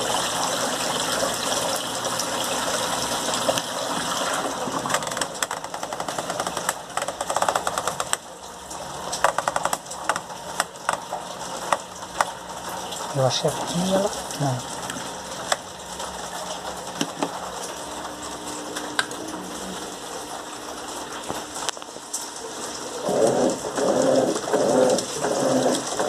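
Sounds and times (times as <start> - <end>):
water rushing in washing machine: 0.0 - 26.0.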